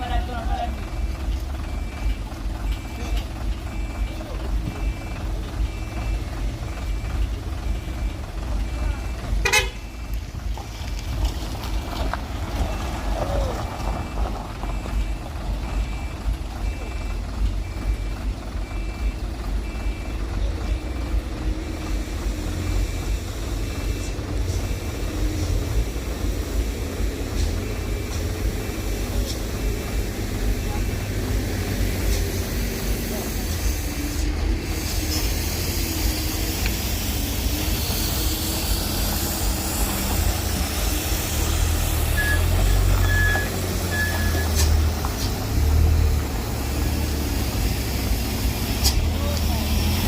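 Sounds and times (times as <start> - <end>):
heavy truck engine rumble: 0.0 - 50.0
truck reversing alarm beeping: 0.0 - 50.0.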